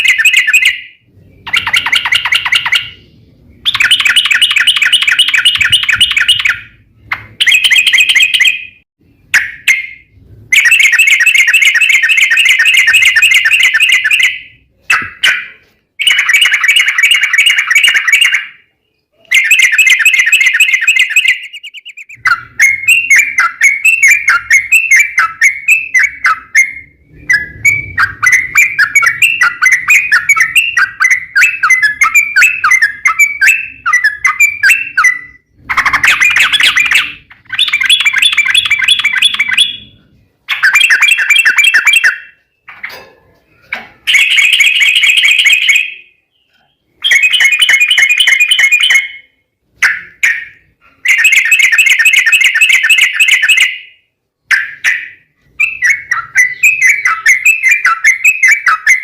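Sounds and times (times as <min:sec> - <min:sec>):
bird chattering: 0:01.4 - 0:09.9, 0:10.5 - 0:53.8.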